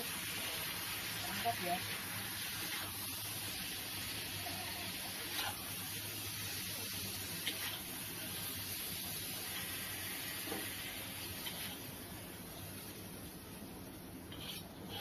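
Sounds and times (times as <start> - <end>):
food sizzling in wok: 0.0 - 15.0.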